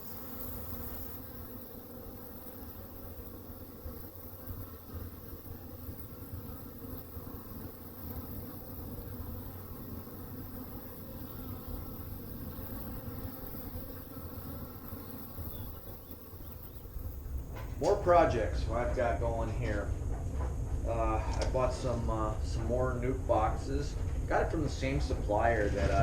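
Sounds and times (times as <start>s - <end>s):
honeybees buzzing: 0.0s - 19.6s, 20.9s - 26.0s.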